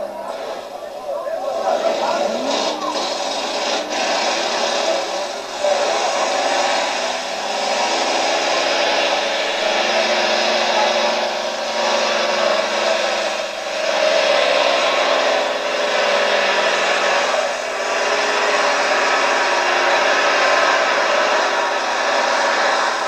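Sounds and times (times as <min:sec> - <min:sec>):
tractor engine running flat out: 0:00.0 - 0:23.0.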